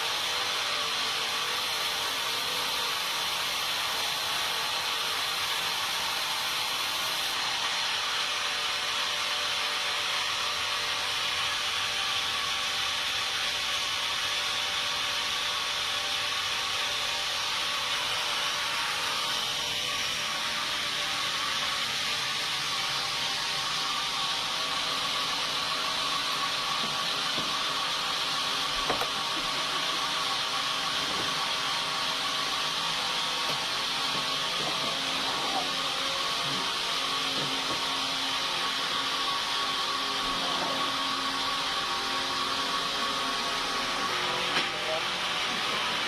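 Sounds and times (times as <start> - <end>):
sawmill machinery whirring: 0.0 - 46.0.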